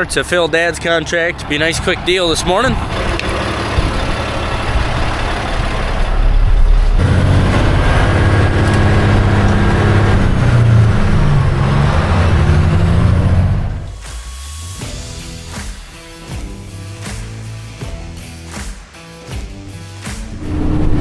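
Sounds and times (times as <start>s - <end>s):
truck engine accelerating: 0.0s - 18.6s, 20.0s - 21.0s.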